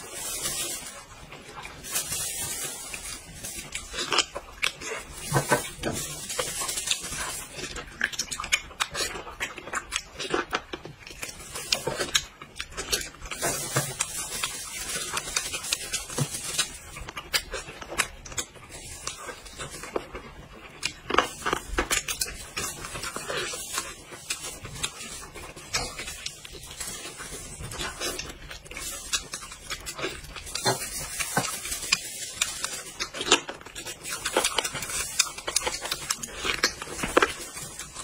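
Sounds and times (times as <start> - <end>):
person chewing meat: 0.0 - 38.0.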